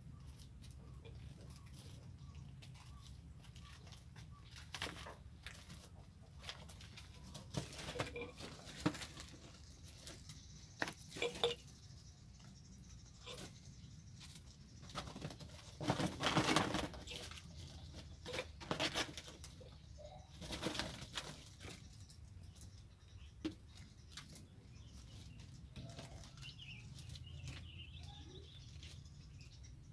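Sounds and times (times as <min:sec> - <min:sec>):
kittens scuffling and playing: 0:00.0 - 0:29.7.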